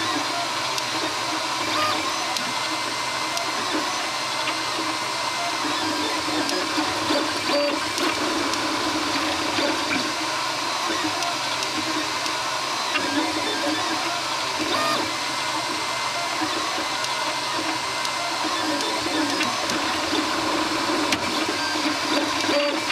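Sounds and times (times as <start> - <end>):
printer fans and motors whirring: 0.0 - 22.9.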